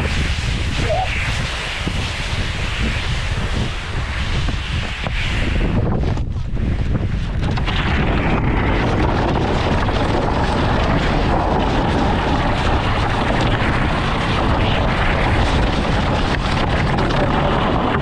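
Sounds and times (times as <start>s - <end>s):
sled scraping over snow: 0.0s - 18.0s
wind buffeting microphone: 0.0s - 18.0s.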